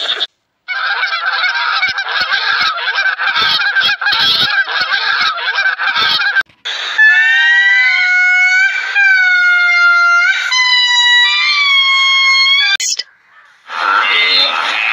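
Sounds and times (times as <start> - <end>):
geese honking: 0.0 - 12.7.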